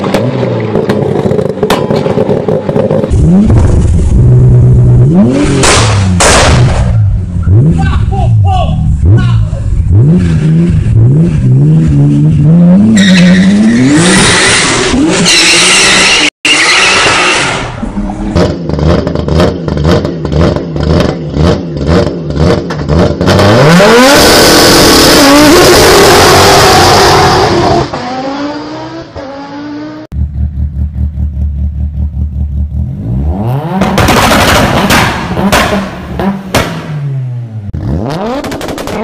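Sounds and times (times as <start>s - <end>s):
car engine revving: 2.2s - 7.9s, 8.8s - 16.3s, 17.0s - 39.0s.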